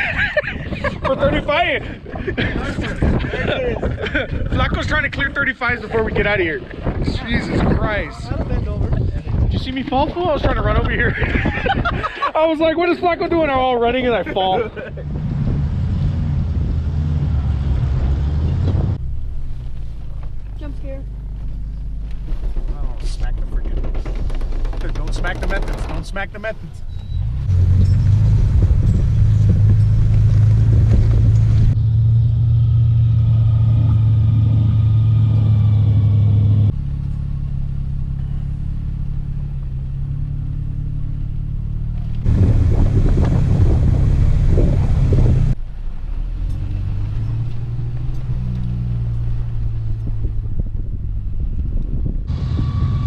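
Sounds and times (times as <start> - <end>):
wind buffeting microphone: 0.0 - 31.8, 42.1 - 53.0
truck engine at low revs: 0.0 - 53.0.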